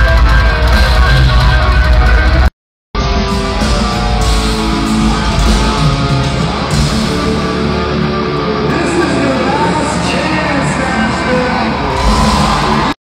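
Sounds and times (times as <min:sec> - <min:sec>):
distorted electric guitars: 0:00.0 - 0:12.9
heavy metal band playing live: 0:00.0 - 0:12.9.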